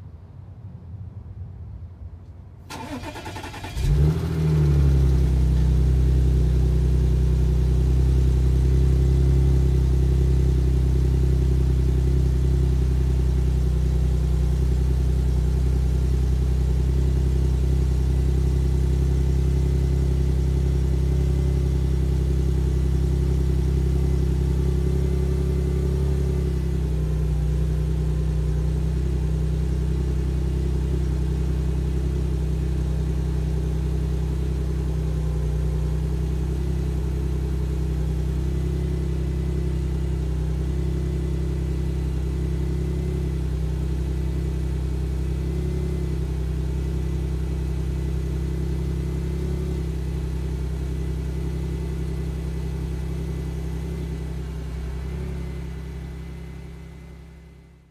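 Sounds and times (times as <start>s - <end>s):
car engine idling: 2.6s - 57.9s.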